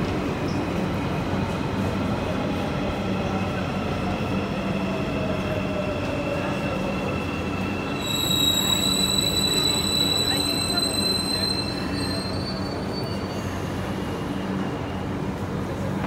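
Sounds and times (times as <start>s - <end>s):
train rumble and electric hum: 0.0s - 16.0s.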